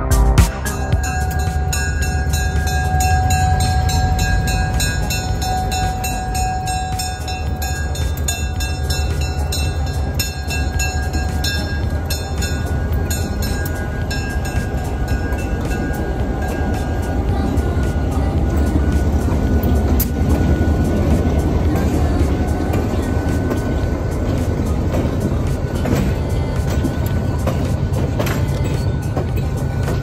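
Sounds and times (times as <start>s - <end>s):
diesel locomotive engine rumbling: 0.0s - 30.0s
steady high tone: 0.0s - 30.0s.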